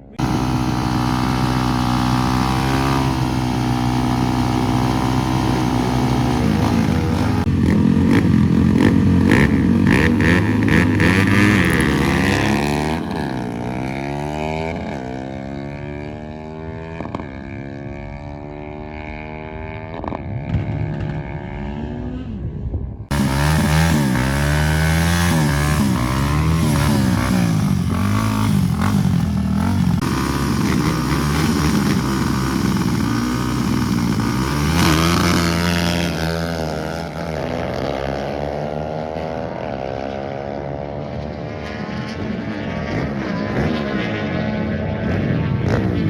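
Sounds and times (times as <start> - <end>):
racing motorcycle engines revving: 0.0 - 22.4, 23.1 - 46.0.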